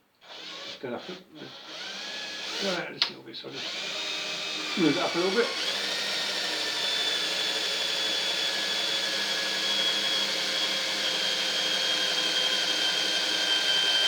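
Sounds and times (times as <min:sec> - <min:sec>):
electric drill drilling metal: 0:00.2 - 0:02.9, 0:03.5 - 0:14.0.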